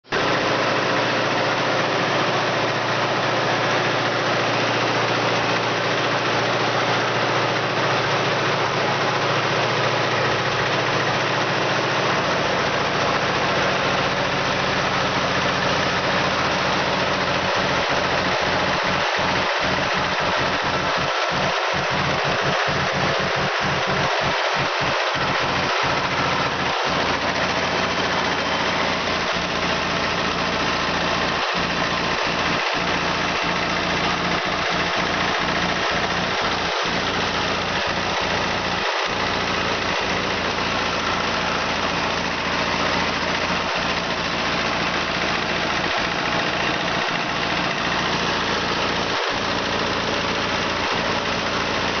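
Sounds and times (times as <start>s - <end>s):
extruder machine running: 0.0s - 52.0s.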